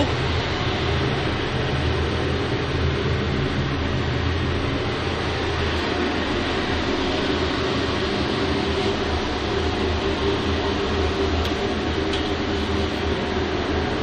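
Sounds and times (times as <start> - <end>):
boiler burner rushing: 0.0 - 14.0.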